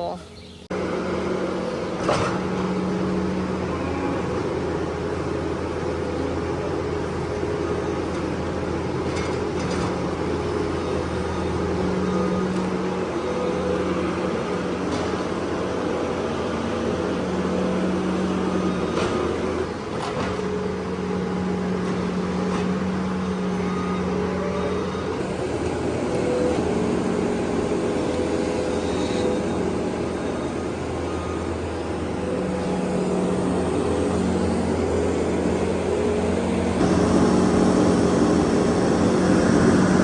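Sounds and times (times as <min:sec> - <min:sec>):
farm machine engine running: 0:00.0 - 0:40.0.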